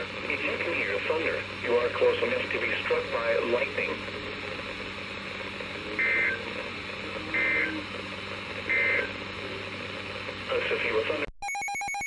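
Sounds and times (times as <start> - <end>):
low hum and hiss: 0.0 - 11.3.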